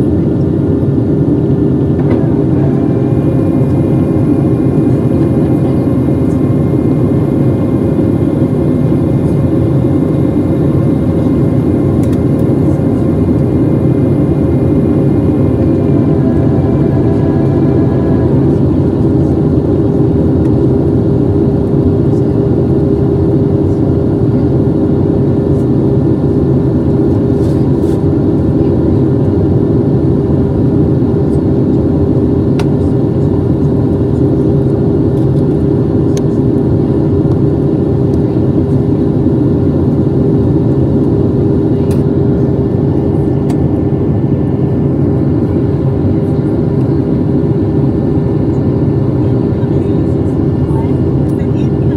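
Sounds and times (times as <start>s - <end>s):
jet engine cabin hum: 0.0s - 51.9s.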